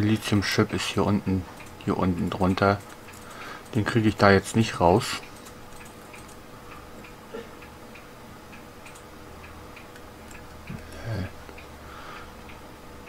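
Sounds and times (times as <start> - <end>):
faint regular ticking: 0.0 - 13.0
low steady hum: 0.0 - 13.0.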